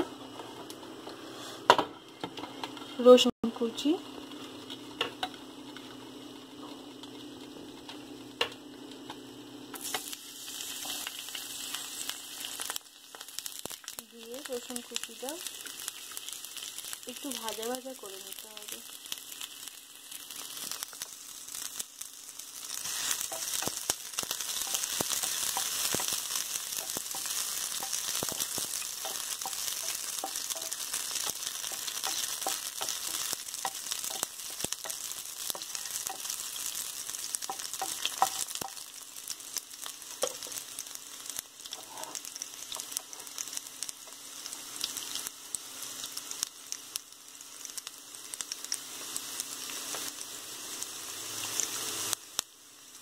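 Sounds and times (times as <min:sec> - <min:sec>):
garlic sizzling in hot oil: 0:00.0 - 0:53.0.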